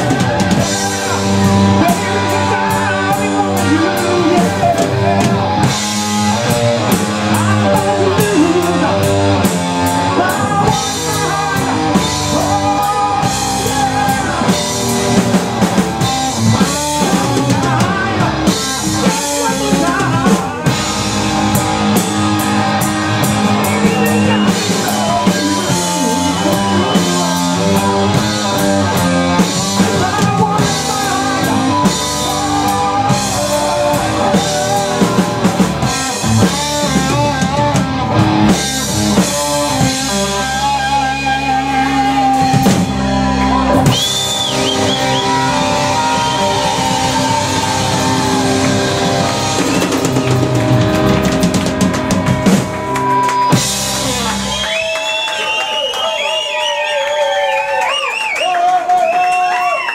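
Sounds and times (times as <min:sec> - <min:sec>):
wavering lead guitar notes: 0:00.0 - 0:54.7
rock band playing slow blues: 0:00.0 - 0:56.5.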